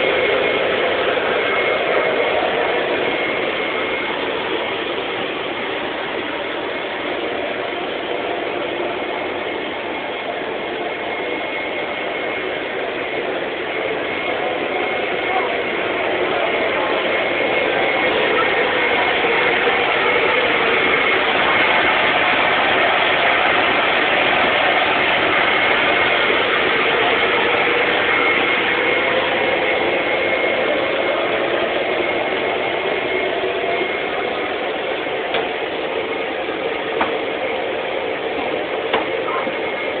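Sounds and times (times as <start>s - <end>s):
electric blower rushing air: 0.0s - 40.0s.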